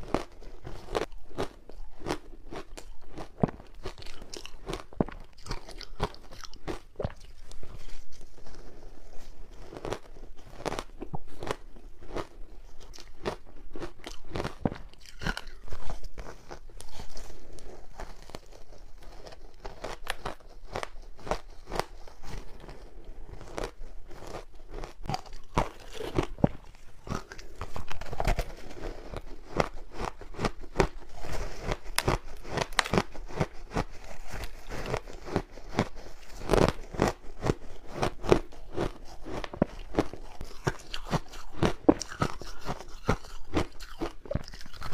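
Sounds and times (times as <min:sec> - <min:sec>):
ice crunching between teeth: 0:00.0 - 0:44.9.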